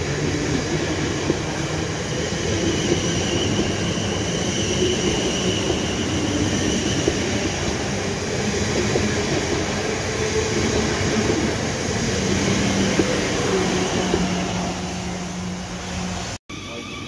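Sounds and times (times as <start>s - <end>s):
train wheels rumbling on rail: 0.0s - 16.4s.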